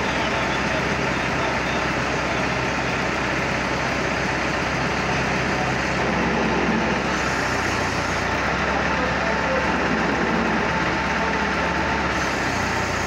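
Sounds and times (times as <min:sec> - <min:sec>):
crane truck engine running: 0:00.0 - 0:13.0.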